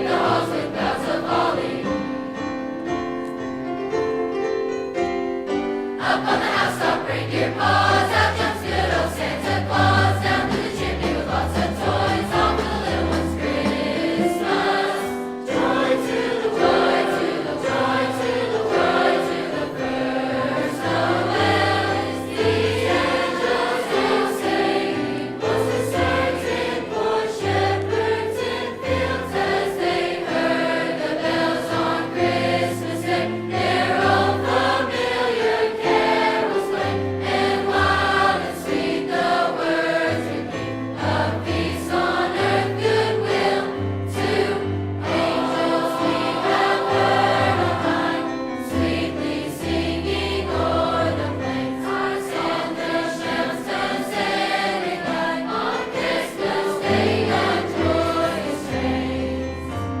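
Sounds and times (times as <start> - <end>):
choir singing: 0.0 - 3.0, 5.6 - 60.0.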